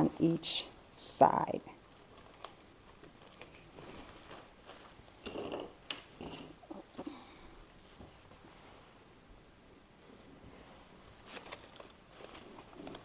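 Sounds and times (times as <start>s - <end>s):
artificial flowers rustling: 1.2s - 9.1s, 10.1s - 13.0s.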